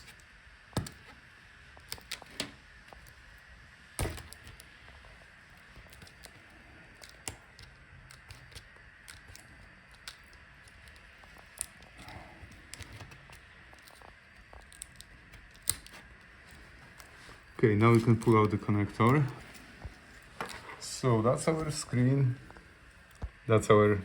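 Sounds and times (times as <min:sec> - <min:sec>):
small clicks and scratches: 0:00.0 - 0:23.5
faint steady hiss: 0:00.0 - 0:24.0.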